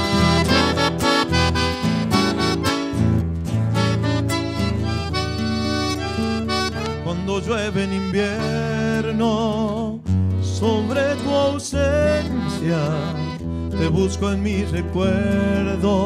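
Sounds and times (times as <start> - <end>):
piano accordion: 0.0 - 16.0
strummed acoustic guitars: 0.0 - 16.0.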